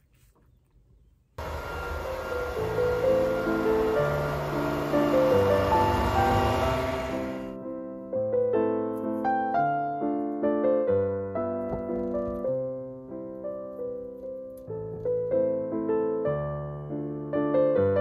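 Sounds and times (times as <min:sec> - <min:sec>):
gentle piano melody: 0:01.4 - 0:18.0.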